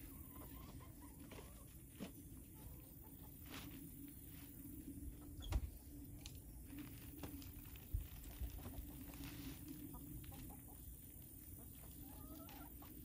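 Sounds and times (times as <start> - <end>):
hens clucking: 0.0 - 6.6, 8.2 - 13.0.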